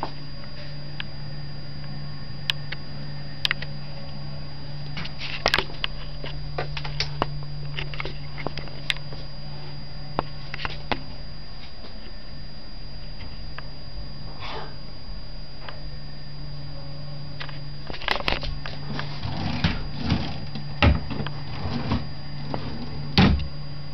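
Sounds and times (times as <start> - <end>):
high whine: 0.0 - 23.9
steady low hum: 0.0 - 23.9.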